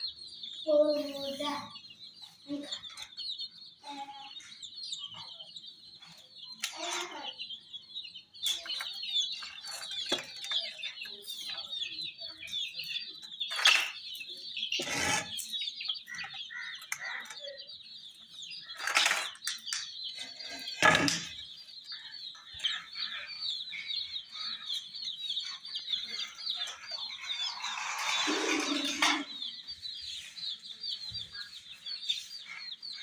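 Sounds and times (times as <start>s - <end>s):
baby chicks peeping: 0.0s - 33.0s.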